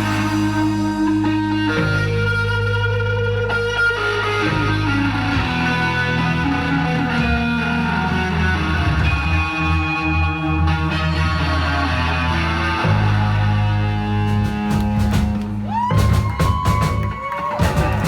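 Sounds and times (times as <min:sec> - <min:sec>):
electric guitar long ringing notes: 0:00.0 - 0:14.9
bass guitar: 0:00.0 - 0:18.0.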